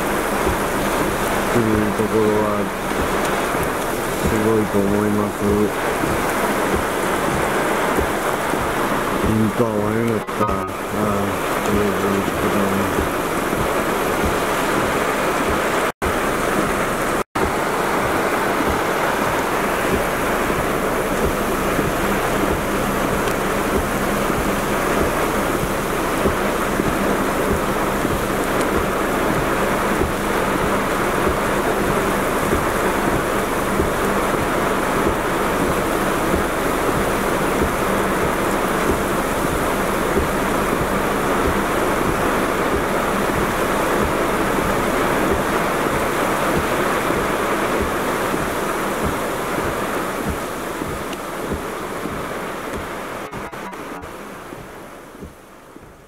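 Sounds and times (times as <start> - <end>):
heavy rain pouring on a car: 0.0 - 56.0
raindrops hitting car body: 0.0 - 56.0.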